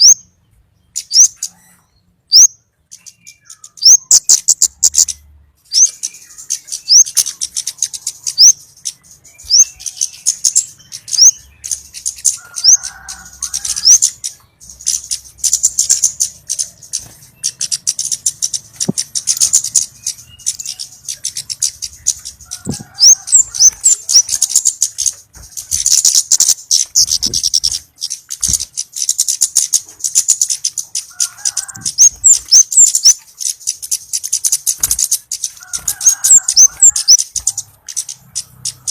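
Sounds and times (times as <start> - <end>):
bird ticking calls: 0.0 - 38.9.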